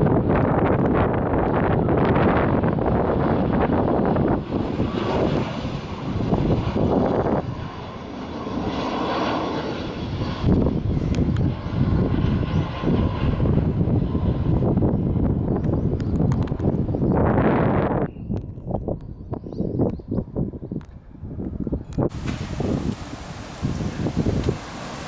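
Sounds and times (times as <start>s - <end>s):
jet aircraft flying overhead: 0.0s - 18.0s, 20.2s - 25.0s.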